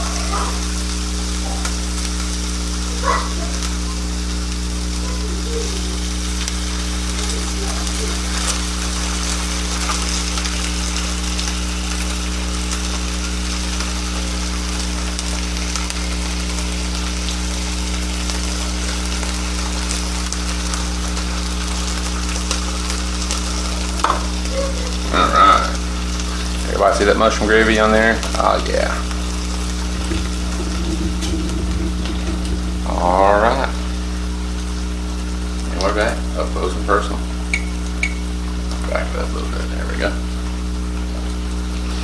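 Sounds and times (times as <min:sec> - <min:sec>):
burgers sizzling in a pan: 0:00.0 - 0:42.0
low electrical hum: 0:00.0 - 0:42.0.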